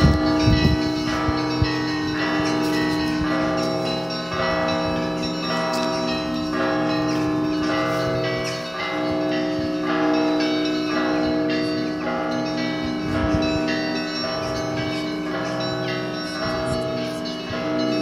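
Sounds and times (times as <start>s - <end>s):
bells chiming in rhythm: 0.0s - 18.0s
hum of large low bell: 0.0s - 18.0s.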